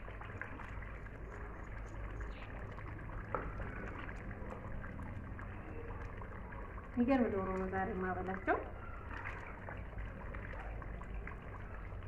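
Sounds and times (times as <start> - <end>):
chicken pieces handled in water: 0.0 - 12.0
low burner rumble: 0.0 - 12.0
stew simmering in a pot: 0.0 - 12.0.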